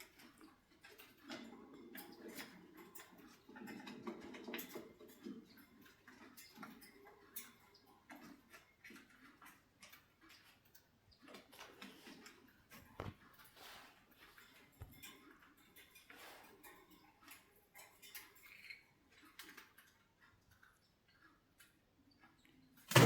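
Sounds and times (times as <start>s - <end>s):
cockatiels clicking and scratching: 0.0s - 23.0s.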